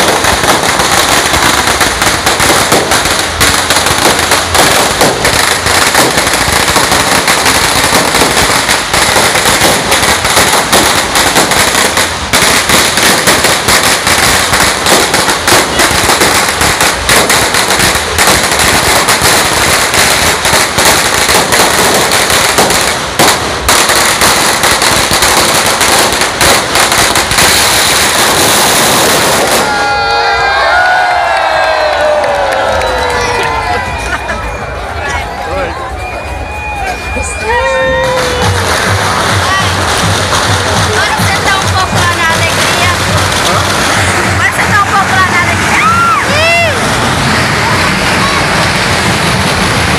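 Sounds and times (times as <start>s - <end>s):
firecrackers crackling and banging: 0.0s - 49.9s.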